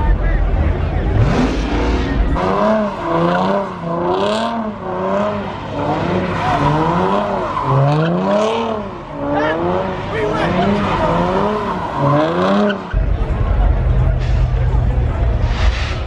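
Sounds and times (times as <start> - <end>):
car engine revving: 0.5 - 16.0.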